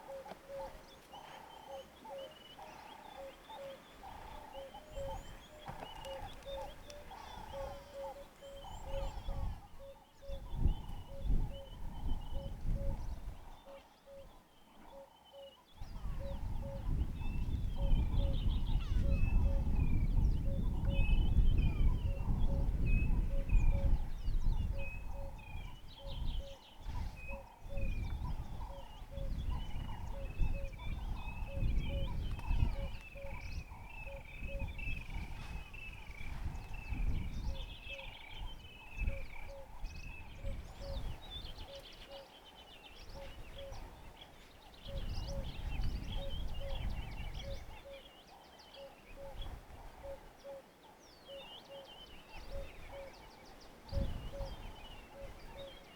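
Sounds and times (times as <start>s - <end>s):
birds chirping and trilling: 0.0s - 55.9s.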